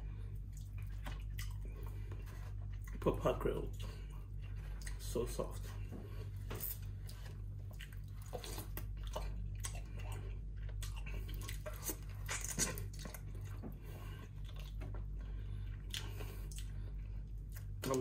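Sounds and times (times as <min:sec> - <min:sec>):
steady low hum: 0:00.0 - 0:18.0
wet chewing and lip smacks: 0:00.4 - 0:03.0, 0:03.6 - 0:05.1, 0:06.5 - 0:18.0.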